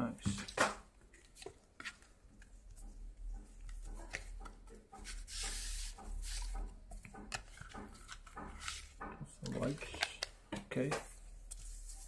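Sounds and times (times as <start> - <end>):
paper and card rustling: 0.2 - 2.7, 3.5 - 12.0.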